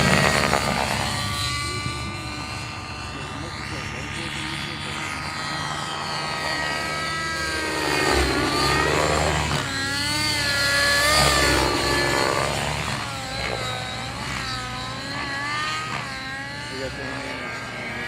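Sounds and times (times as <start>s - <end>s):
model helicopter flying: 0.0s - 18.0s.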